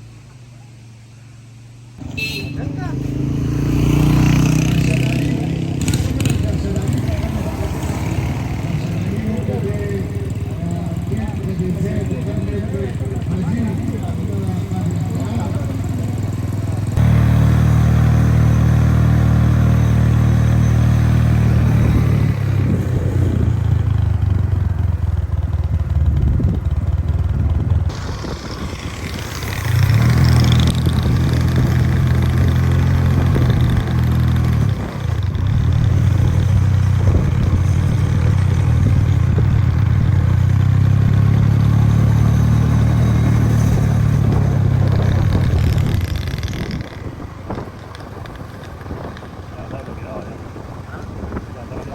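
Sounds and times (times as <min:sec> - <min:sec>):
vehicle engine droning: 0:00.0 - 0:51.9.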